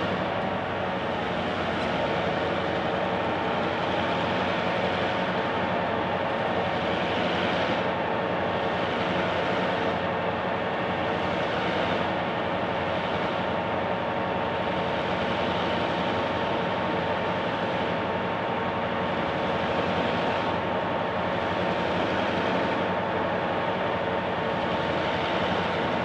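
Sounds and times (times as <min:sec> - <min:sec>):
diesel locomotive engines running: 0:00.0 - 0:26.0.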